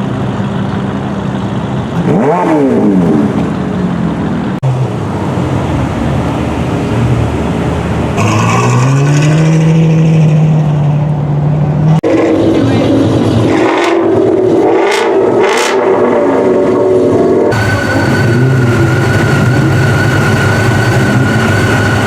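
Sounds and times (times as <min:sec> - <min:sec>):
car engine idling: 0:00.0 - 0:08.4, 0:10.4 - 0:22.0
engine revving: 0:01.9 - 0:03.7, 0:04.5 - 0:22.0.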